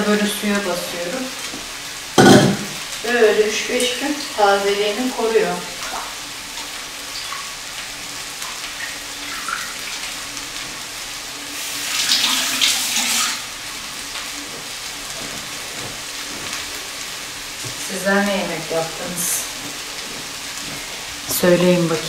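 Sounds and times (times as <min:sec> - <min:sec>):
kitchen tap running: 0:00.0 - 0:22.0
meat sizzling in a pan: 0:00.0 - 0:22.0.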